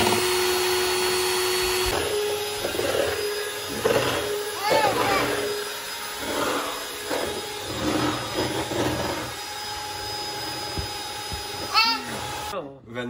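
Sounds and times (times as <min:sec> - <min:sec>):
electric hand mixer running: 0:00.0 - 0:12.6.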